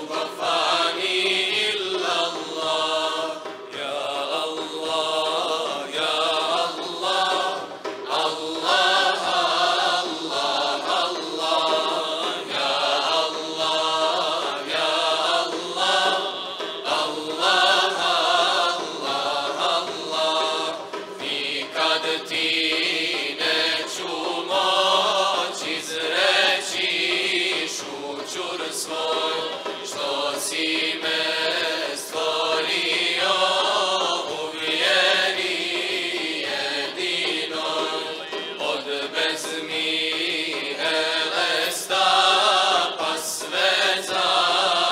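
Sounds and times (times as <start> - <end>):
mixed choir singing a hymn: 0.0 - 44.9.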